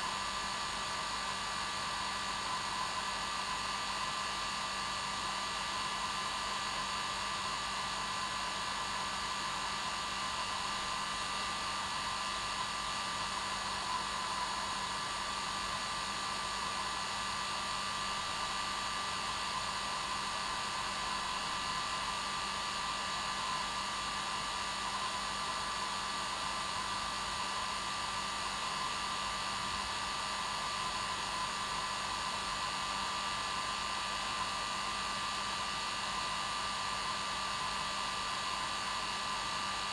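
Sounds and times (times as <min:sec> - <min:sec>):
hair dryer running: 0:01.0 - 0:39.9.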